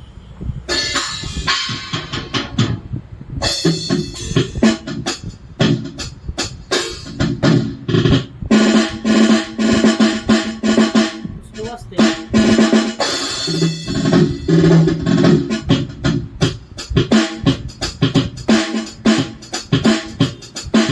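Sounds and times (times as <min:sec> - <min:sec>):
electronic drum hits and rolls: 0:00.7 - 0:20.9.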